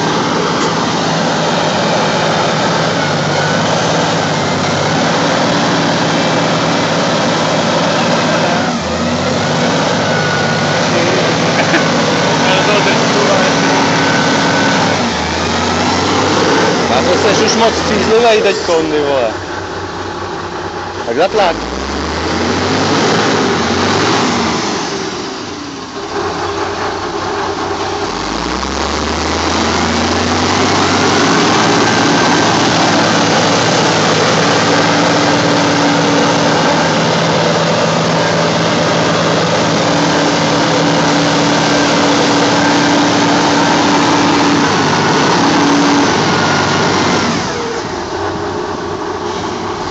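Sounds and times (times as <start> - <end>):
diesel engine revving with whine: 0.0 - 49.9.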